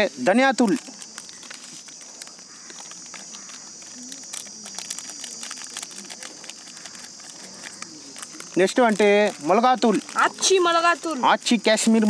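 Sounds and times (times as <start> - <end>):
crickets trilling: 0.0 - 12.0
faint clicks and rustles: 0.0 - 12.0.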